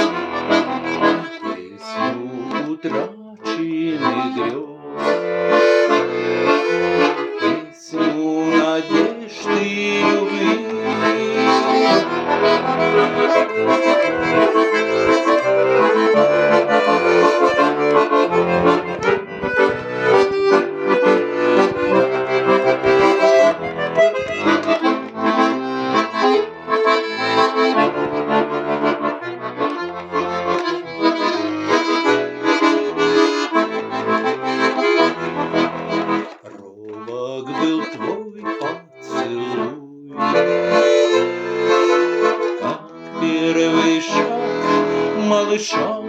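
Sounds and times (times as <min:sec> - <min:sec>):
button accordion playing chords: 0:00.0 - 0:46.0.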